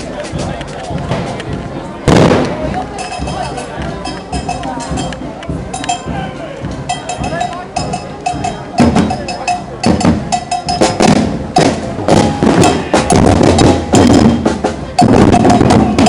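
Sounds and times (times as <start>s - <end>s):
marching band drums: 0.0s - 16.0s.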